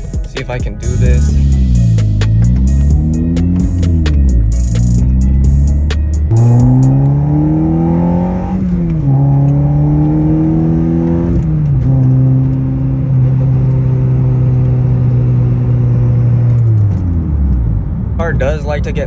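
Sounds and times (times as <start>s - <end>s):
car engine accelerating through gears: 1.0s - 18.2s.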